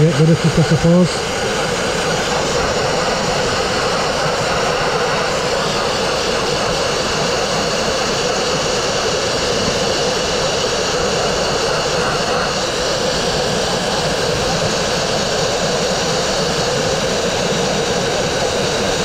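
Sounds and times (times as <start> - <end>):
blasting nozzle rushing air and media: 0.0 - 19.0.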